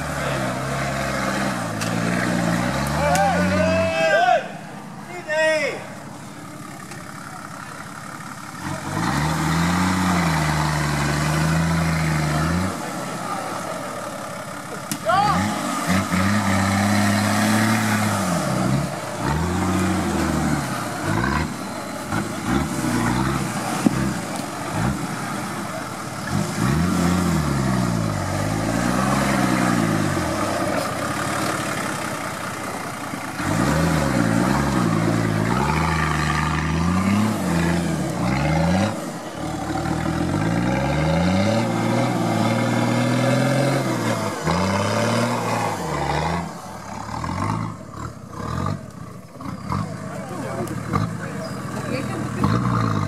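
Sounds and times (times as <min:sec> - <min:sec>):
engine revving under load: 0:00.0 - 0:03.9, 0:08.5 - 0:53.0.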